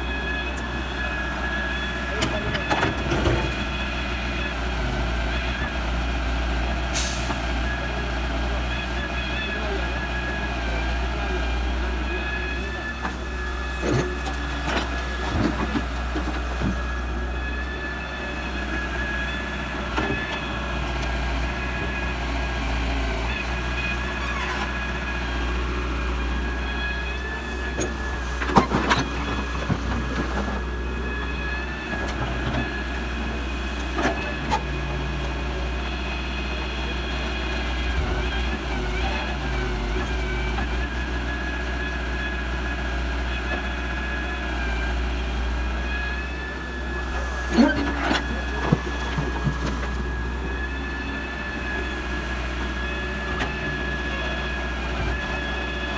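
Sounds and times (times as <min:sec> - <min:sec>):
diesel engine rumbling: 0:00.0 - 0:55.9.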